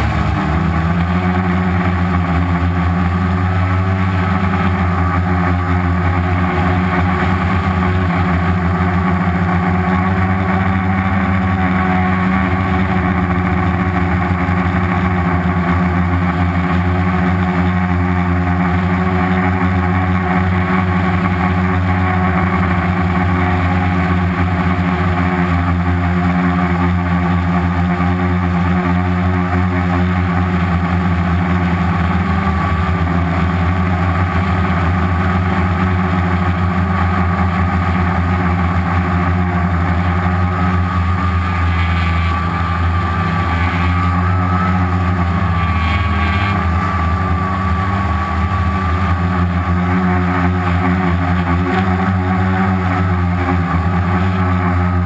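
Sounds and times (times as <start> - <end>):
quadcopter motors humming: 0.0 - 55.0.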